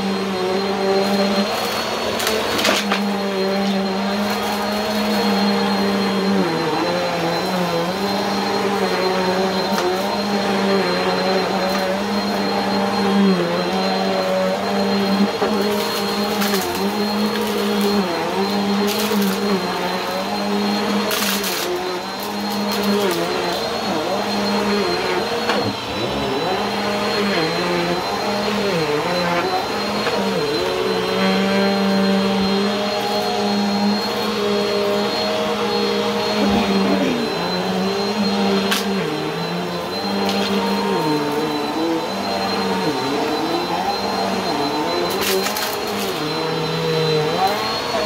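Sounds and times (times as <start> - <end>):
vacuum cleaner whining: 0.0 - 48.0.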